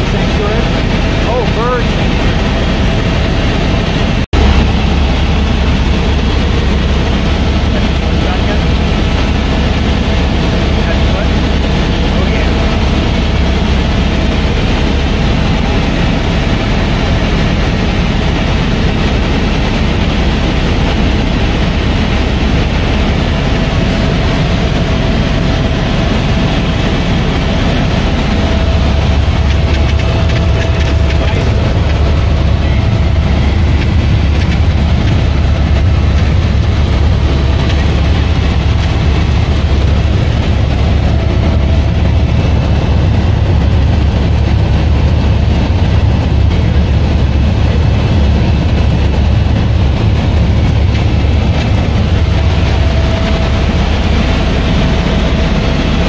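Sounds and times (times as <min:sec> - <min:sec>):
helicopter engine and rotor drone: 0:00.0 - 0:56.0
high whine: 0:00.0 - 0:56.0.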